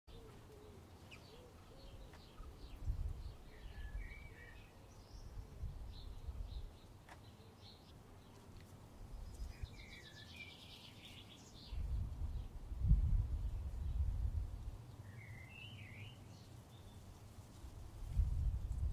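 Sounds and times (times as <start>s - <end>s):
small birds chirping: 0.1s - 18.9s.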